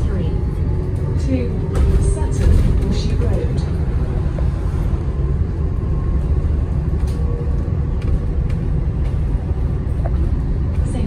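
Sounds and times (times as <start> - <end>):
low road rumble: 0.0 - 11.0.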